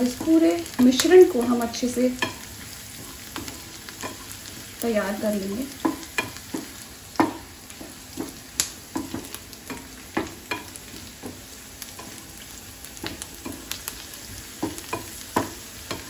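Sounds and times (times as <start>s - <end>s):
onions sizzling in hot fat: 0.0s - 16.0s
wooden spatula scraping a pan: 0.0s - 16.0s.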